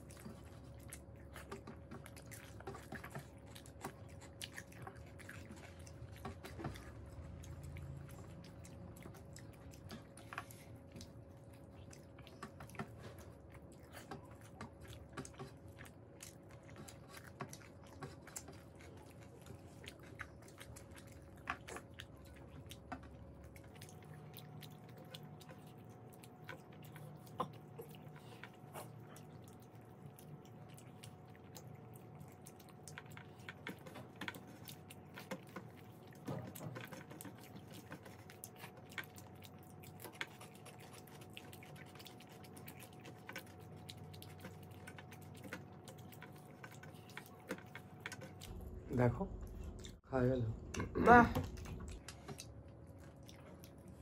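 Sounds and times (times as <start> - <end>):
faint steady hum: 0.0 - 54.0
people chewing and eating: 0.0 - 54.0.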